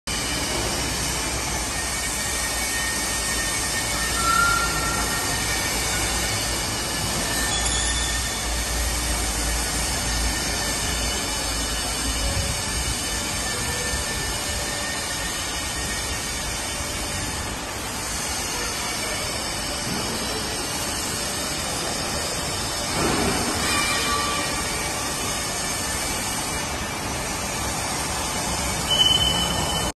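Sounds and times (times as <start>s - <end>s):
factory machinery rumble and hiss: 0.1s - 29.9s
faint machine whines: 0.1s - 30.0s
sharp high whine: 0.1s - 30.0s.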